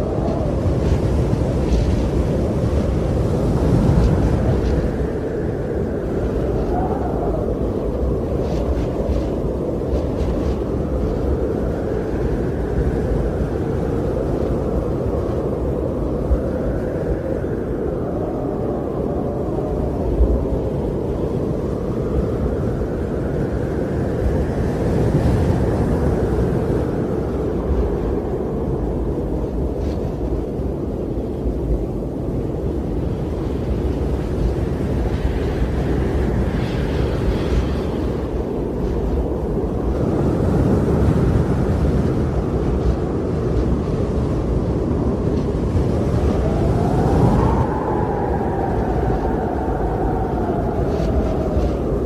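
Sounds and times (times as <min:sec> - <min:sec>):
storm wind blowing: 0:00.0 - 0:52.0.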